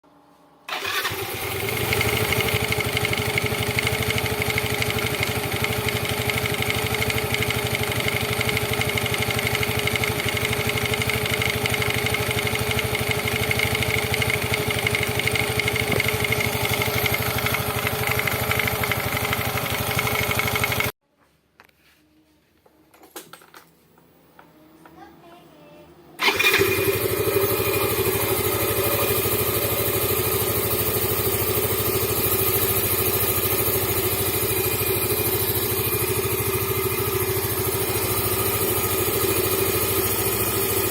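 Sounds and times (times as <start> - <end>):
scooter engine running: 0.7 - 21.0, 26.2 - 40.9.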